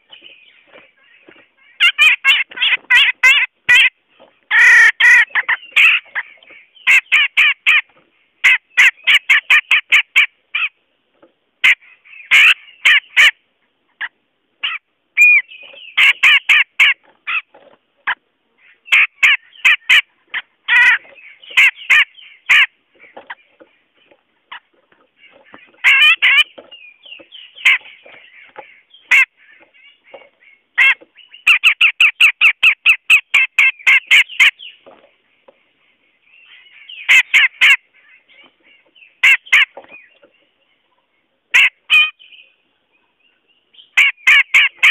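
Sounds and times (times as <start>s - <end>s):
bulbul harsh chattering calls: 0.0s - 10.8s, 11.6s - 42.6s, 43.2s - 44.9s.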